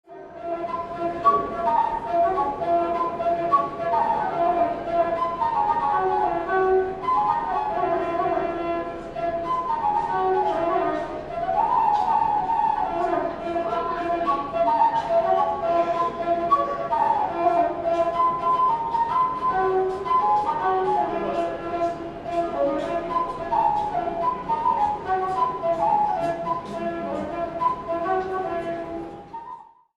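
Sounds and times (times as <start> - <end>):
instrumental tune: 0.2 - 29.8.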